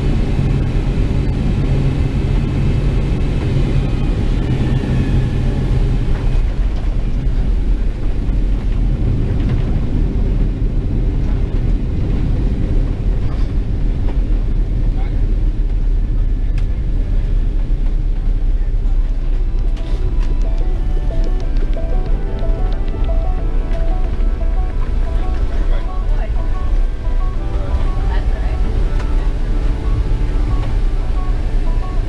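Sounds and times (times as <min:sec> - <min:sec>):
jet engine whine: 0:00.0 - 0:32.0
low rumble of engines and wheels: 0:00.0 - 0:32.0.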